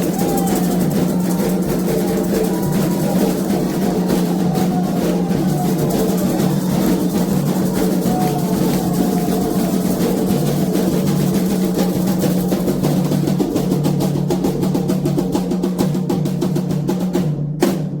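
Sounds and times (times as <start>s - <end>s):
hand drums playing fast roll: 0.0s - 18.0s.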